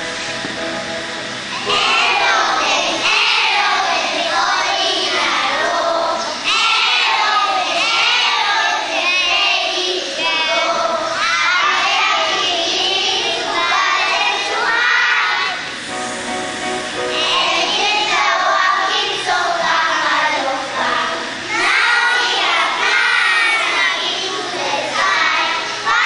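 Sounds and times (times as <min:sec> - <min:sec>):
children chanting in unison: 0:01.6 - 0:15.8, 0:17.1 - 0:26.0.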